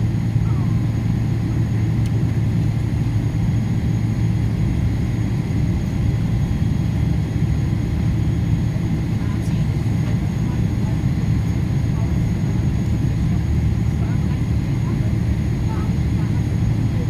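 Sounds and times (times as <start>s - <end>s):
airliner cabin rumble: 0.0s - 17.0s
faint steady whine: 0.0s - 17.0s.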